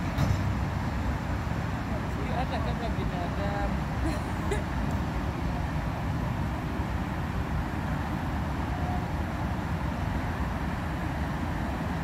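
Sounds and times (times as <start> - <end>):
white water rushing below weir: 0.0 - 12.0.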